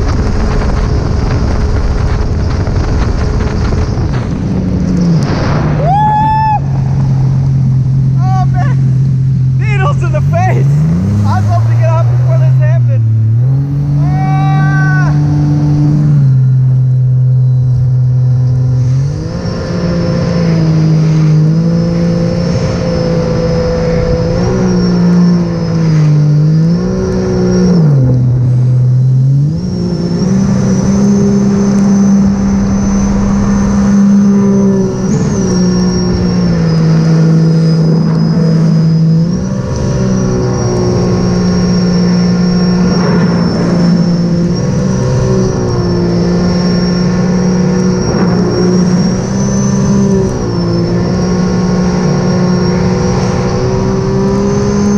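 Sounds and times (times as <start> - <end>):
high whine: 0.0 - 54.9
personal watercraft engine running: 0.0 - 54.9.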